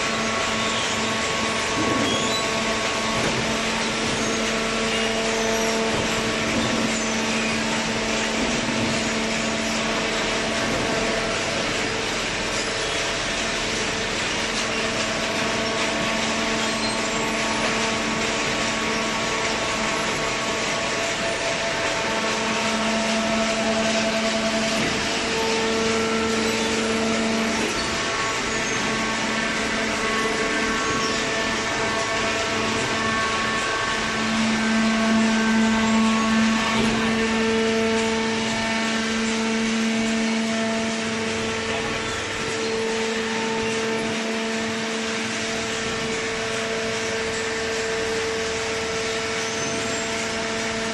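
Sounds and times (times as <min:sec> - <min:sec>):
hydraulic baler machine hum: 0:00.0 - 0:50.9.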